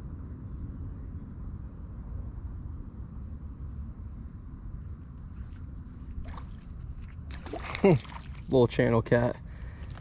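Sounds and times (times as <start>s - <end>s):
insect high-pitched trill: 0.0s - 10.0s.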